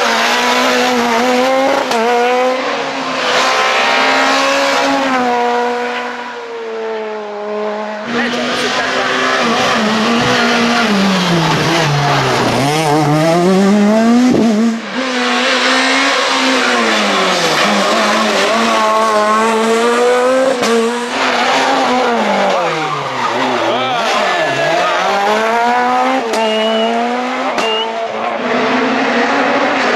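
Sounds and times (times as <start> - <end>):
rally car engine revving: 0.0 - 29.9.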